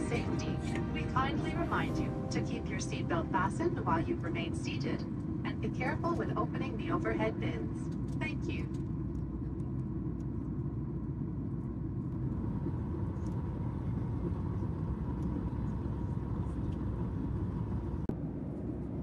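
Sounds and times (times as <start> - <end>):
airplane cabin rumble: 0.0 - 19.0
faint steady hum: 0.0 - 19.0.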